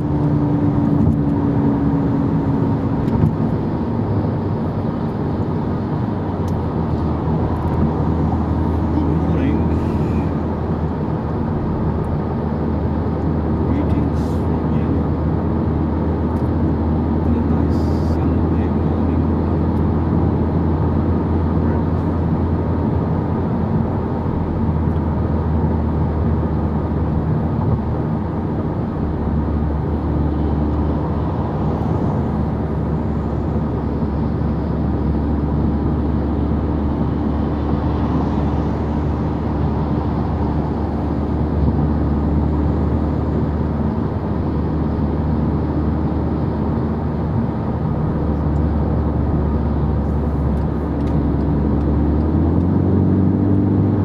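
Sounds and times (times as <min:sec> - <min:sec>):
car engine drone: 0:00.0 - 0:54.0
tyre and road noise: 0:00.0 - 0:54.0.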